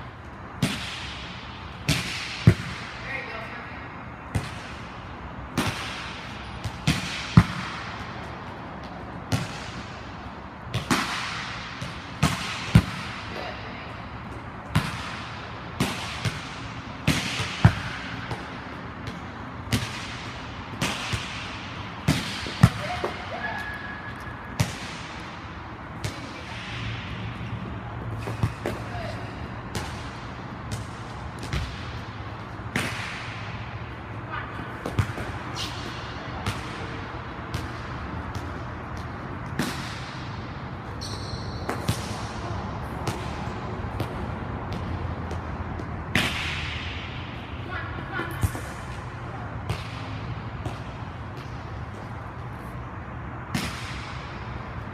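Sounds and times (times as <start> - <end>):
balls bouncing on court: 0.0 - 54.9
hand slapping volleyball: 0.6 - 3.0, 4.3 - 10.0, 10.7 - 13.6, 14.7 - 27.3, 28.2 - 33.7, 34.8 - 40.4, 41.6 - 47.1, 48.4 - 51.6, 53.4 - 54.5.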